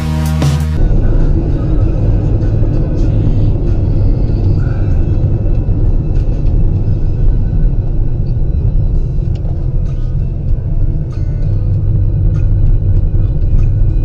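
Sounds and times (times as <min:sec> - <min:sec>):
vehicle road and engine rumble: 0:00.7 - 0:14.0.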